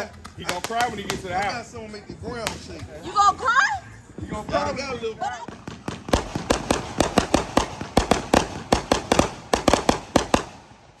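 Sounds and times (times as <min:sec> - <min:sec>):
fireworks banging: 0:00.0 - 0:03.0, 0:04.1 - 0:11.0.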